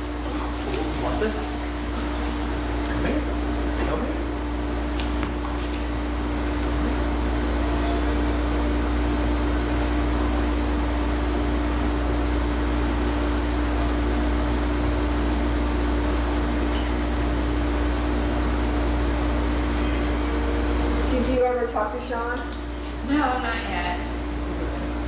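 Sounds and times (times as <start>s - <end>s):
pool pump humming: 0.0s - 25.0s.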